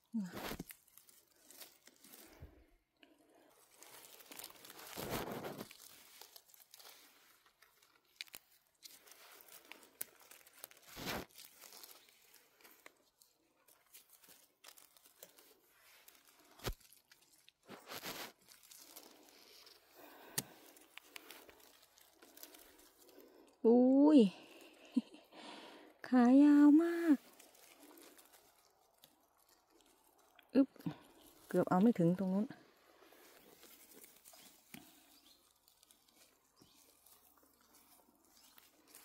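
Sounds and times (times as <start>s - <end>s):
rustling and crunching undergrowth: 0.0s - 39.0s.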